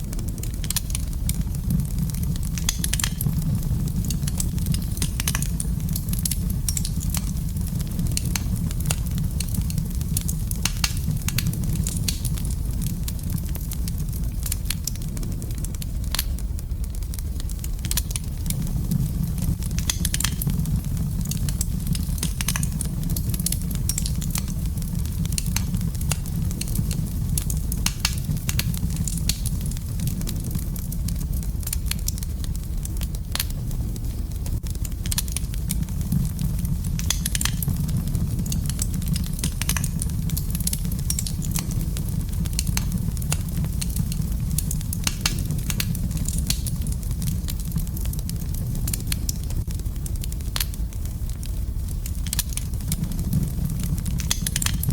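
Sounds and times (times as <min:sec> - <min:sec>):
wood fire crackling in a fireplace: 0:00.0 - 0:54.9.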